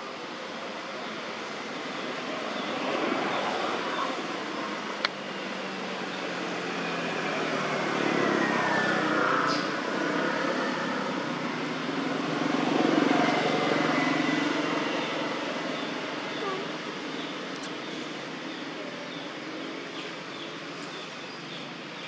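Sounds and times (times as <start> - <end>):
vehicles passing on road: 0.0 - 22.0.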